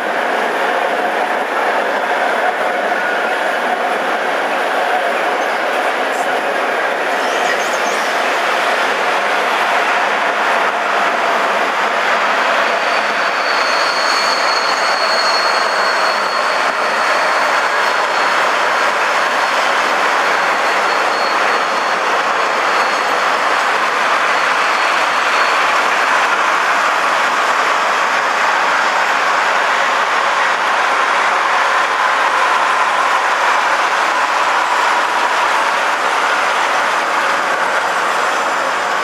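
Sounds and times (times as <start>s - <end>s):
train wheels on rail: 0.0s - 39.0s.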